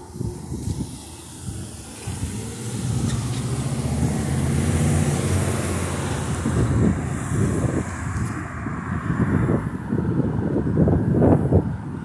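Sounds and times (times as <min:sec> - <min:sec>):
van driving past: 0:00.0 - 0:11.3.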